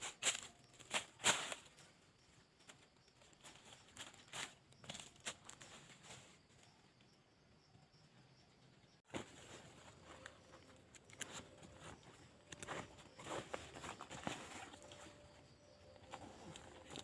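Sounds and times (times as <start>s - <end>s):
rustling of dry leaves: 0.0s - 6.8s, 9.1s - 17.0s.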